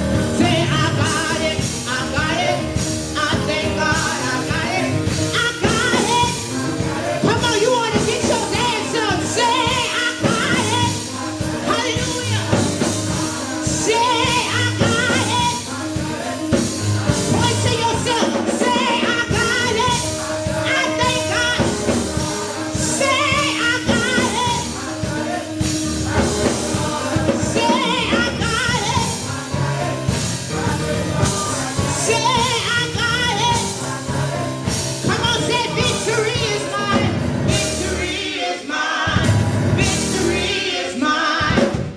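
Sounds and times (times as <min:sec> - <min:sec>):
gospel music with singing: 0:00.0 - 0:41.9.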